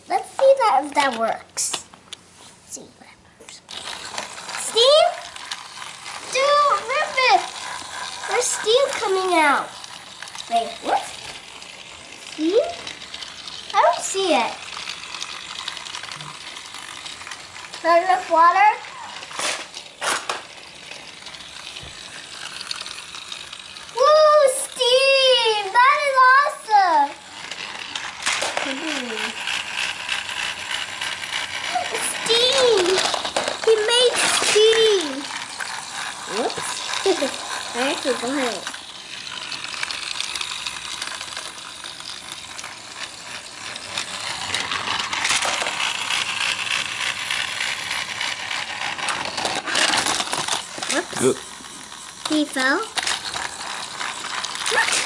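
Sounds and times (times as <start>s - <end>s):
toy train motor whirring: 0.0s - 55.0s.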